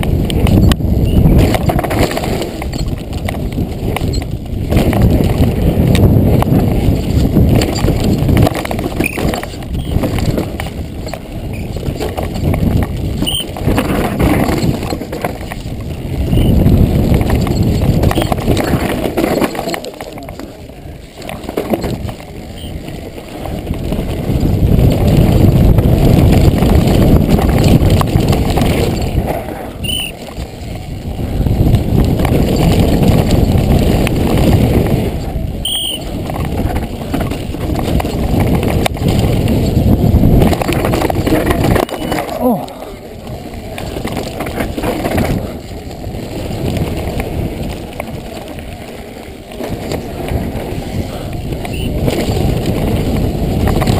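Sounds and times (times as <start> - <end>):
bike rattling over bumps: 0.0 - 53.9
bike tyres skidding over dirt: 0.0 - 53.9
wind rumble on microphone: 0.0 - 53.9.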